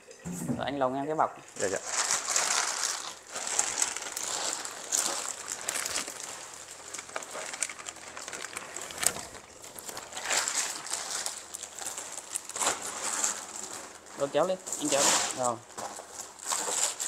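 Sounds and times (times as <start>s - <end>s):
plastic bag crinkling: 1.6s - 17.0s.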